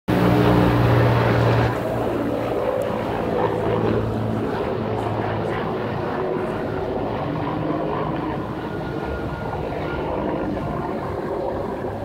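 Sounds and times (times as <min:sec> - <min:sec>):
helicopter drone: 0:00.1 - 0:12.0.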